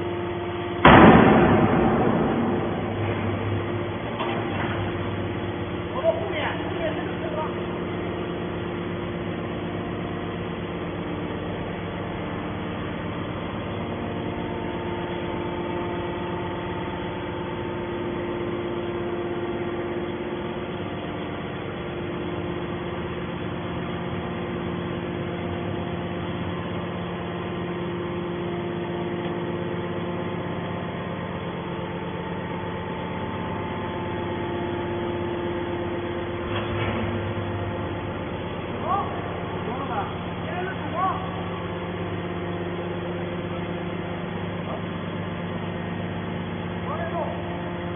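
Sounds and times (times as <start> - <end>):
baling machinery droning: 0.0 - 47.9.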